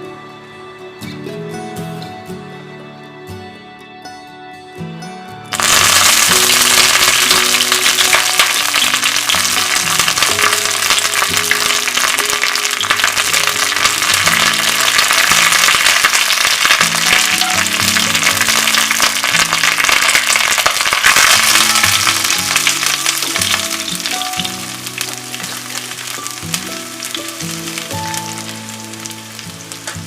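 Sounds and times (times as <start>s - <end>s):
background music: 0.0s - 30.0s
chicken deep-frying in oil: 5.5s - 30.0s.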